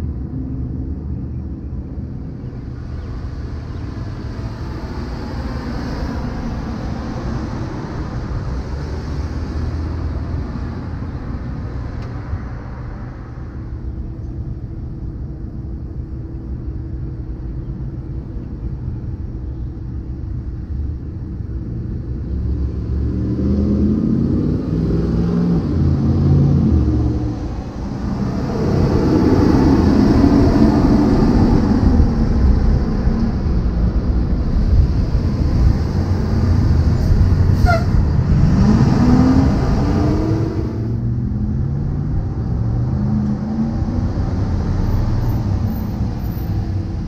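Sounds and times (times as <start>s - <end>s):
tyres on road: 0.0s - 47.0s
vehicle engines: 0.0s - 47.0s.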